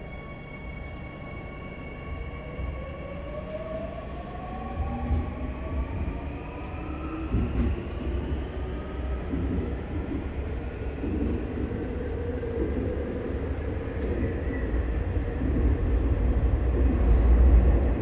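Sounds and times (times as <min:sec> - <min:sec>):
train wheels rumbling: 0:03.2 - 0:18.0.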